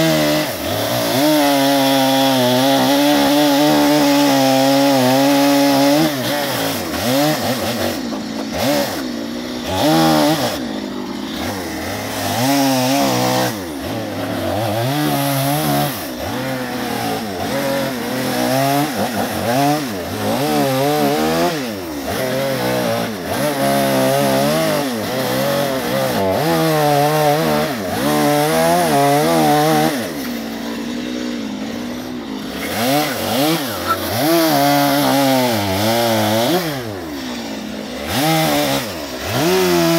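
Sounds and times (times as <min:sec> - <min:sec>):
chainsaw revving cutting log: 0:00.0 - 0:39.9.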